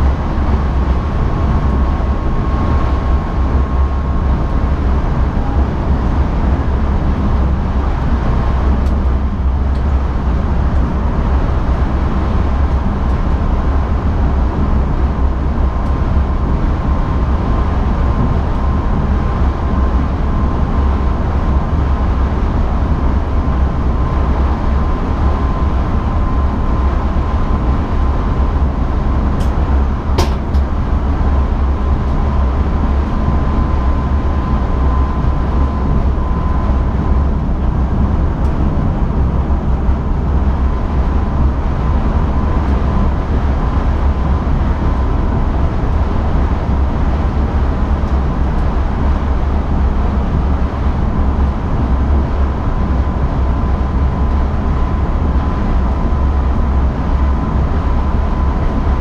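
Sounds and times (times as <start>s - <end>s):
train cab rumble: 0.0s - 59.0s.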